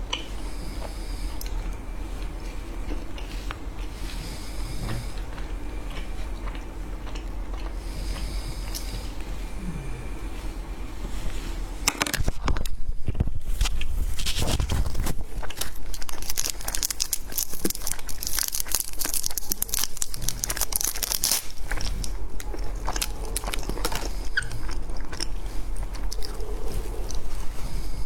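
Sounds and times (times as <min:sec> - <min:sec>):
candy crunching and chewing: 0:00.1 - 0:10.9, 0:13.6 - 0:28.0.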